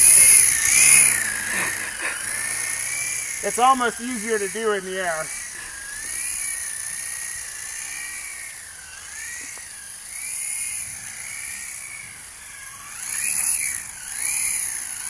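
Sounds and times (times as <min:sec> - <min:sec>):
rc helicopter rotors whining: 0:00.0 - 0:15.0.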